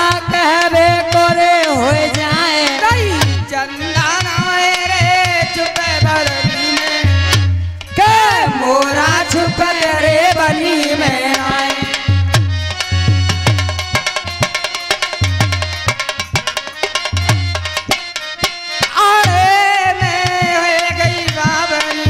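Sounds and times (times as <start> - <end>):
harmonium: 0.0 - 22.0.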